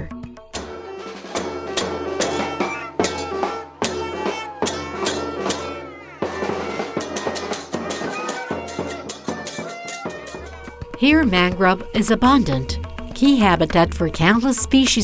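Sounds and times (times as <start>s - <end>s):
background music with drum beat: 0.0s - 15.0s.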